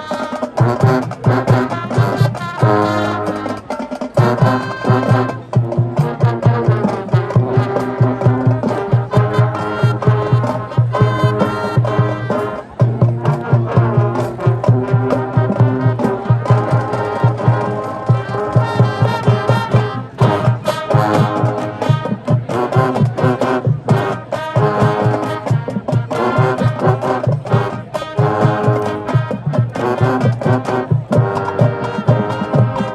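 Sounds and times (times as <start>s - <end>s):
brass horns playing tune: 0.0s - 32.9s
steady drum beat: 0.0s - 32.9s.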